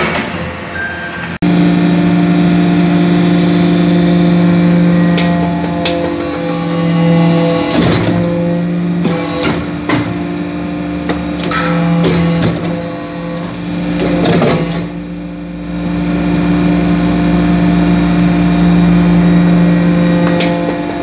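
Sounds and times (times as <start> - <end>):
press motor and pump hum: 1.4 - 21.0.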